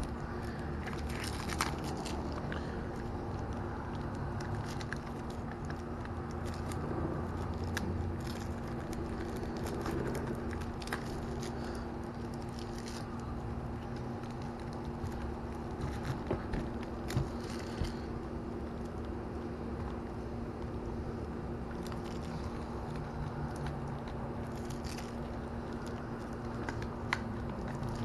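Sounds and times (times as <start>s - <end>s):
plastic film crackling: 0.0s - 28.0s.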